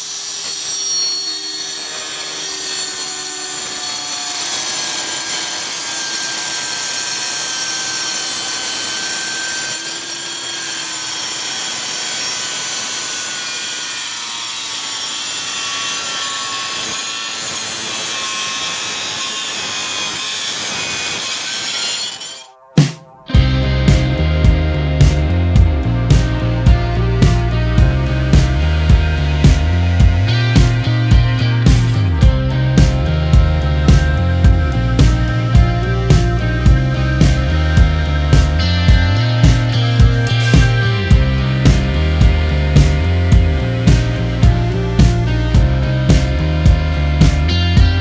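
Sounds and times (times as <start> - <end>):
angle grinder cutting: 0.0 - 22.6, 23.3 - 48.0.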